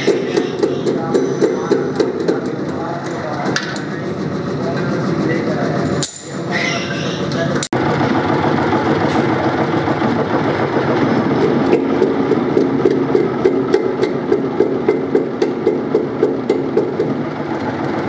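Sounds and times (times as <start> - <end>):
hydraulic press humming: 0.0 - 18.0.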